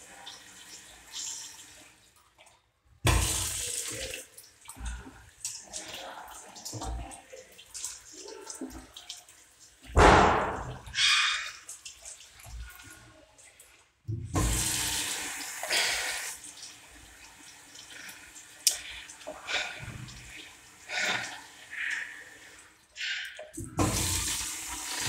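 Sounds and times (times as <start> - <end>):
tap water splashing in a sink: 0.0 - 22.6, 23.2 - 25.0.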